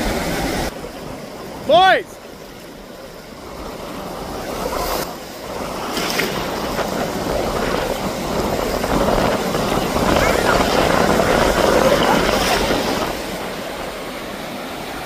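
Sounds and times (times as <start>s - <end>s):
surf at the beach: 0.0s - 15.0s
wind: 0.0s - 15.0s.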